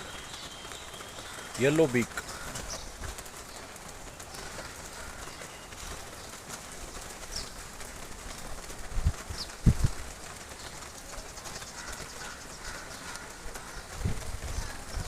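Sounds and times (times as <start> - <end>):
birds calling faintly: 0.0 - 7.8, 10.4 - 15.0.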